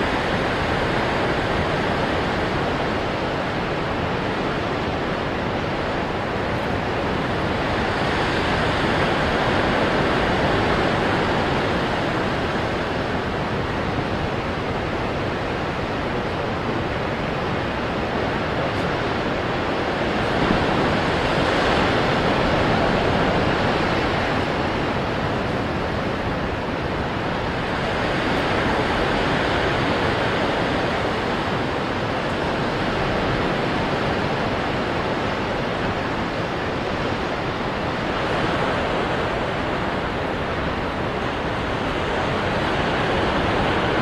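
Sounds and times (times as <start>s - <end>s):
ocean waves breaking on rocks: 0.0s - 44.0s.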